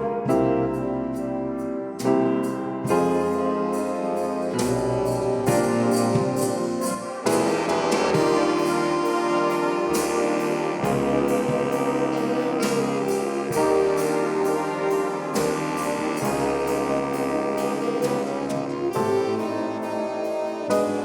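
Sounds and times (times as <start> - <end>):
swing band playing chords: 0.0 - 21.0.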